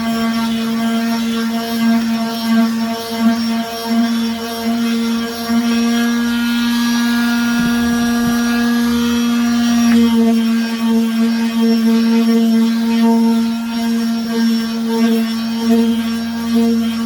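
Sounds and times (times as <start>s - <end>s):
electric sander on wood: 0.0s - 17.0s.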